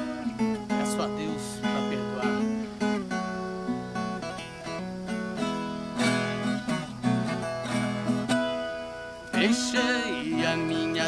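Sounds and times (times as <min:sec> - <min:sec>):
plucked guitar melody: 0:00.0 - 0:11.0.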